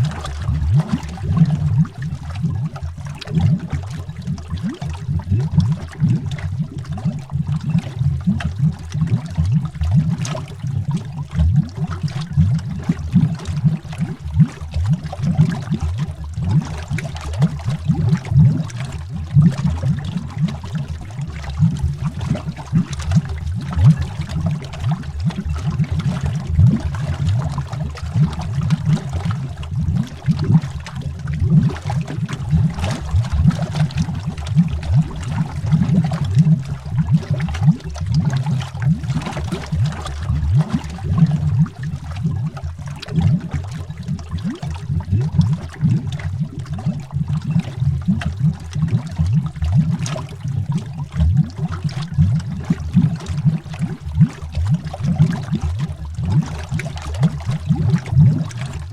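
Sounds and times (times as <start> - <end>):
underwater bubbles gurgling: 0.0 - 58.9.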